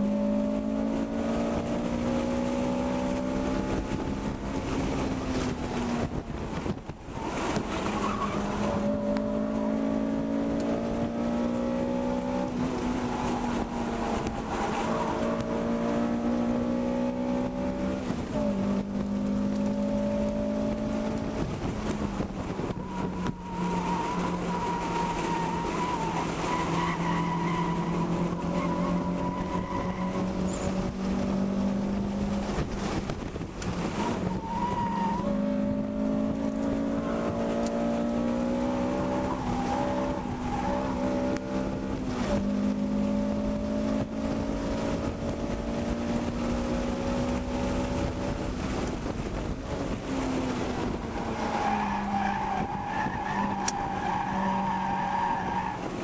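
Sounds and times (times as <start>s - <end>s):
car engine under hard driving: 0.0s - 56.0s.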